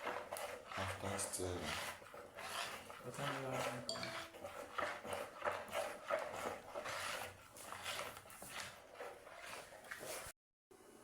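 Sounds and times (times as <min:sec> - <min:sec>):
stirring scraping in a bowl: 0:00.0 - 0:10.4.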